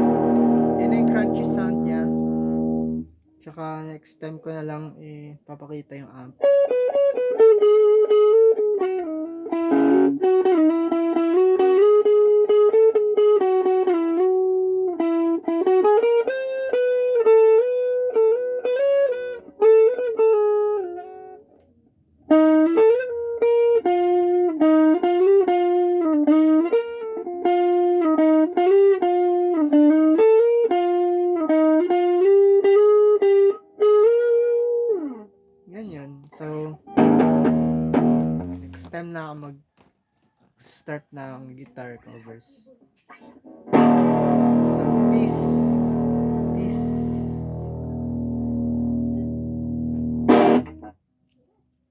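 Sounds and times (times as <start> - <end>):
electric guitar melody: 0.0 - 3.2, 6.4 - 35.5, 36.8 - 38.9, 43.5 - 51.0.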